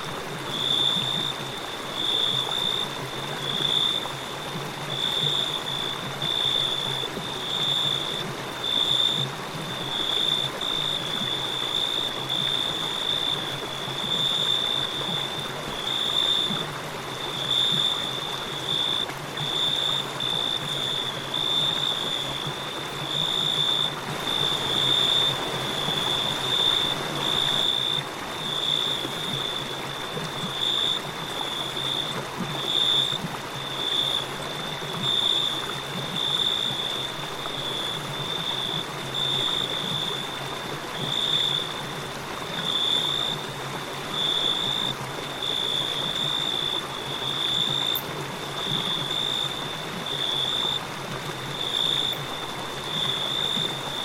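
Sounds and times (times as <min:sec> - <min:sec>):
crickets chirping: 0:00.0 - 0:54.0
river flowing: 0:00.0 - 0:54.0.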